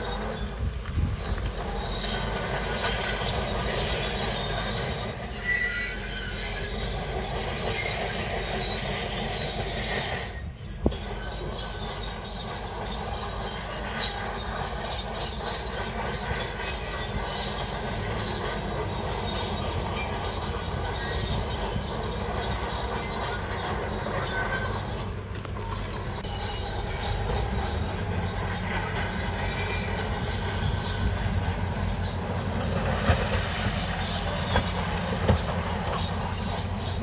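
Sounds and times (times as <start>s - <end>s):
bulldozer engine running: 0.0s - 37.0s
steel tracks clattering and squealing: 0.0s - 37.0s.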